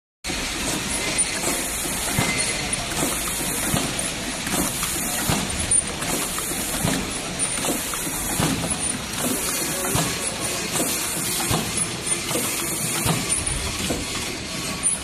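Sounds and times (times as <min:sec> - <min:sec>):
machine mechanical clatter: 0:00.3 - 0:15.0.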